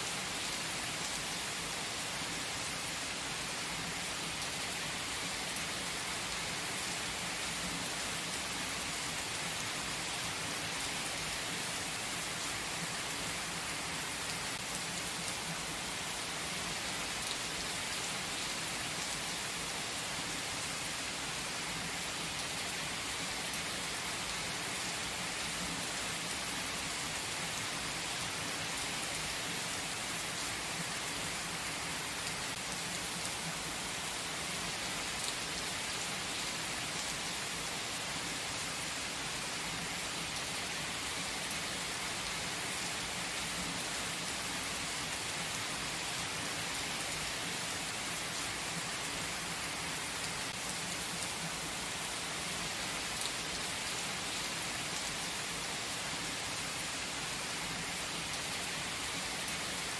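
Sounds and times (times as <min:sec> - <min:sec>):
rain falling on trees: 0:00.0 - 0:59.9.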